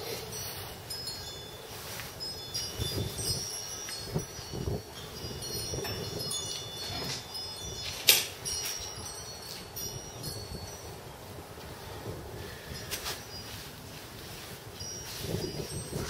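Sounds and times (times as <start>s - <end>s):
high metallic chiming: 0.0s - 16.0s.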